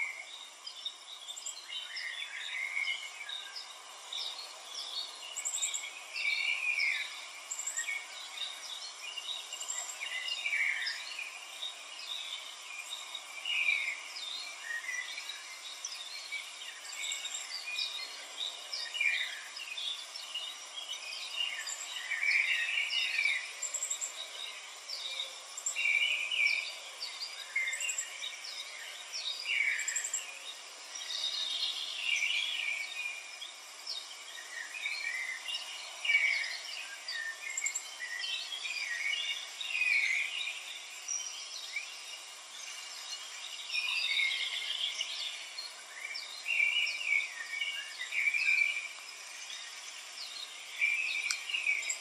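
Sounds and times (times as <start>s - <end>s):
small birds chirping: 0.0s - 52.0s
steady background hiss: 0.0s - 52.0s.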